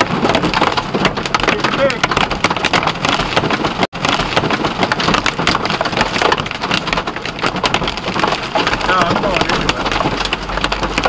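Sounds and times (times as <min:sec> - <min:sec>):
hail clattering on windshield: 0:00.0 - 0:11.0
heavy rain: 0:00.0 - 0:11.0
road noise: 0:00.0 - 0:11.0.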